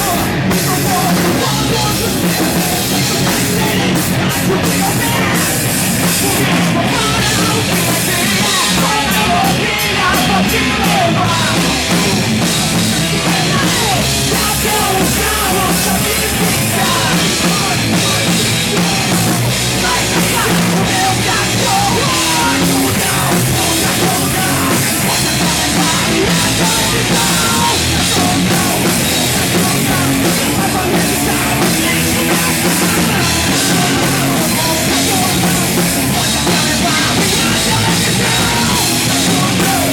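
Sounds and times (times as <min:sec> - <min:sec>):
hard rock band playing live: 0:00.0 - 0:39.9.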